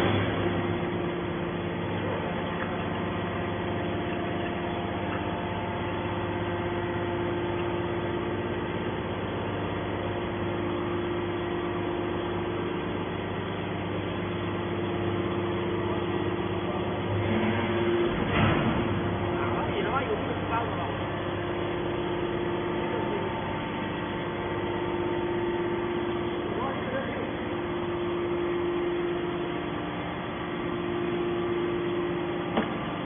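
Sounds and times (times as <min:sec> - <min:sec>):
hydraulic baler machine hum: 0:00.0 - 0:33.0.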